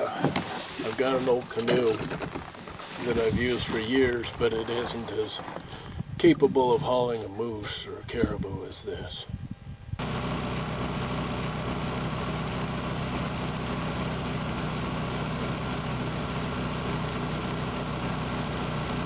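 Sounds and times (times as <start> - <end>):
outboard motor running: 0.0 - 7.0, 10.0 - 19.0.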